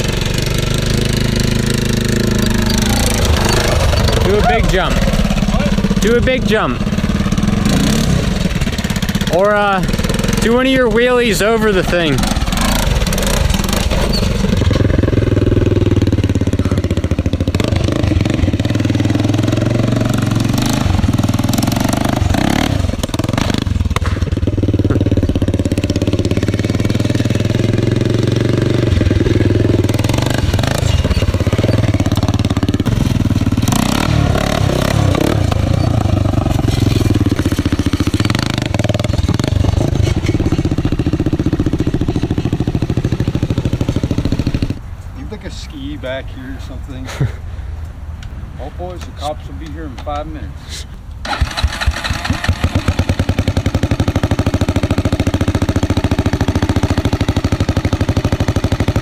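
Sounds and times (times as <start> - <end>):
quad engine revving: 0.0 - 44.8, 51.2 - 59.0.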